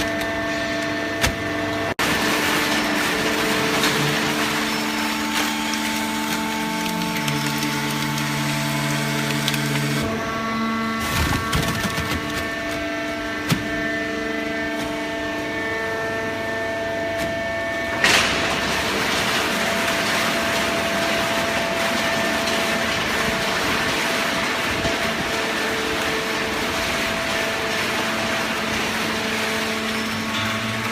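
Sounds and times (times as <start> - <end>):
hydraulic power unit whine: 0.0 - 30.9.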